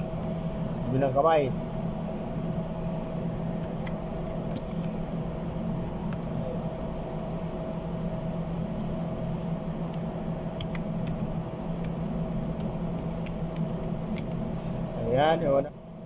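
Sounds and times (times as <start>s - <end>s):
fan blower humming: 0.0s - 16.0s.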